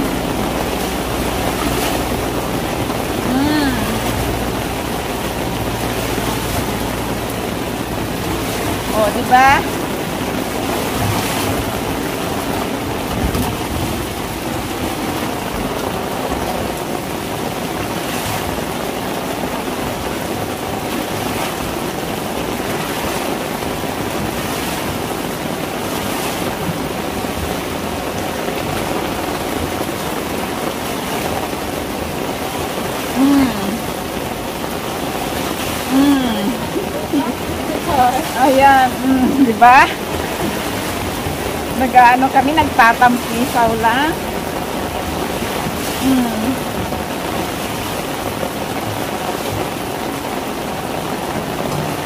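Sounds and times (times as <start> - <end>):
broom splashing water: 0.0 - 52.0
pouring rain: 0.0 - 52.0
water rushing across rooftop: 0.0 - 52.0.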